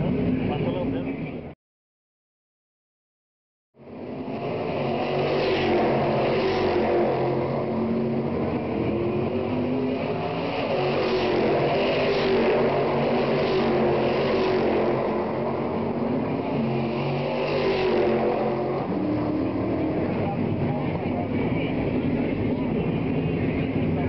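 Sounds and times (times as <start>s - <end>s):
race cars passing: 3.8s - 24.0s.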